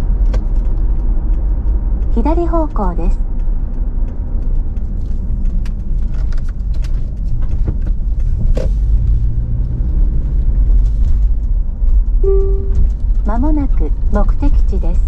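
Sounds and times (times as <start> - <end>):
light ticks: 0.0 - 13.1
car engine and road rumble: 0.0 - 15.0.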